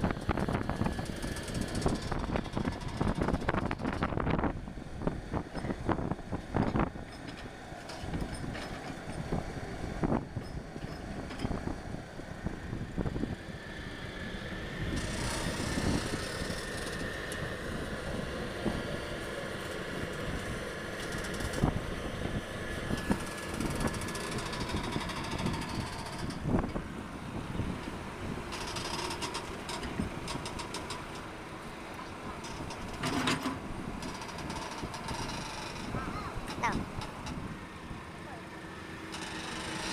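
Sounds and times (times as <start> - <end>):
excavator diesel engine under load: 0.0 - 39.9
hydraulic whine: 0.1 - 39.9.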